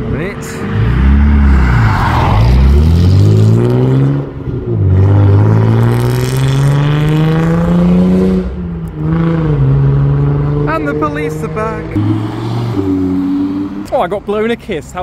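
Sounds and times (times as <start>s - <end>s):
car engine revving and shifting up: 0.4s - 14.0s.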